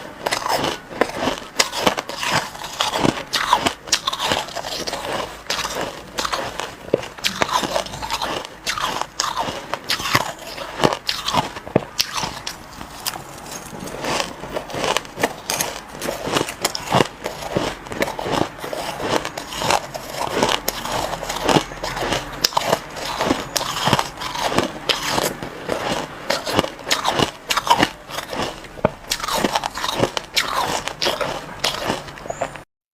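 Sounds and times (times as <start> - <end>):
ice being chewed: 0.0 - 32.7.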